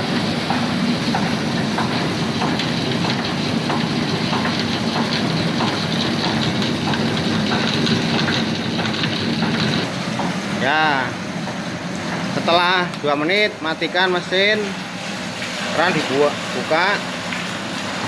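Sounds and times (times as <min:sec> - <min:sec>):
machine hum: 0:00.0 - 0:18.0
soybeans churning in water: 0:00.0 - 0:18.0.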